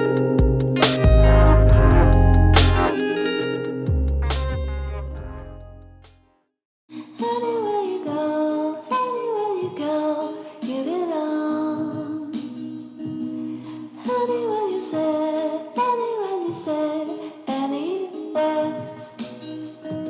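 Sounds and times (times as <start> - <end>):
music with sung melody: 0.0 - 5.4, 6.9 - 20.0.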